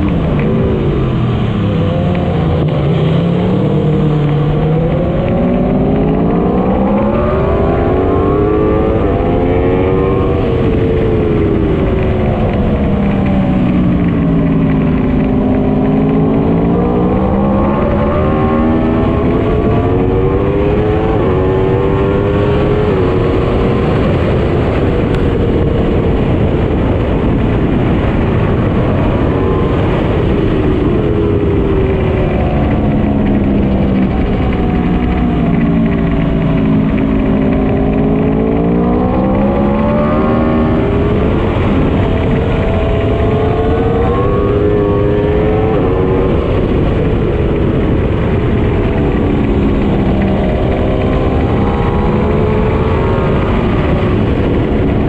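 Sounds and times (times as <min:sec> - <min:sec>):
motorcycle engine revving: 0:00.0 - 0:55.0
wind rushing: 0:00.0 - 0:55.0.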